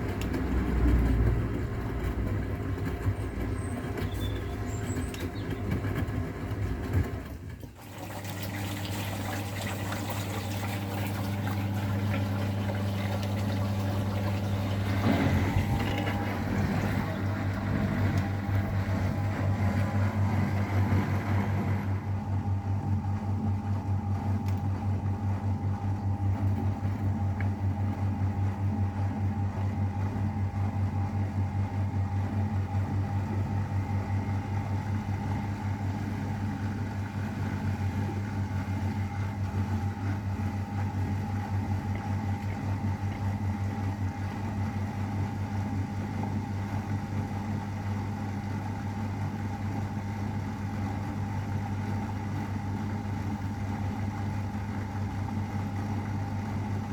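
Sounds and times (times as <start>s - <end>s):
washing machine running: 0.0s - 56.9s.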